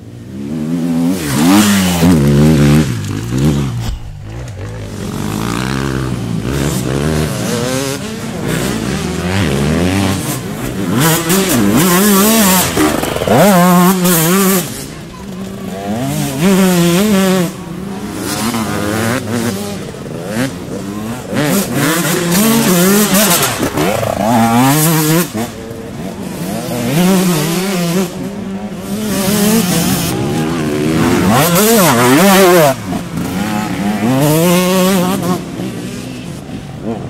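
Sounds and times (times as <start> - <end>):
motorcycle engine revving: 0.3 - 37.0.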